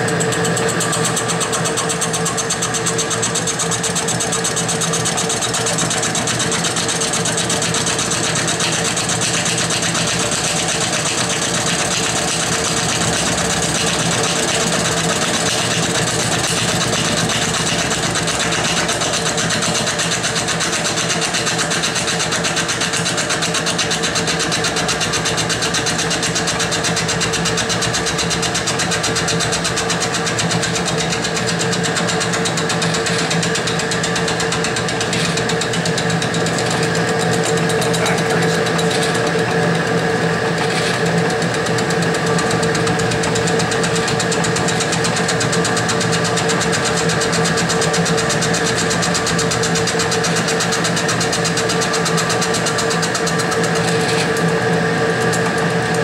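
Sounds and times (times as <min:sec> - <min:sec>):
milling machine motor hum: 0:00.0 - 0:56.0.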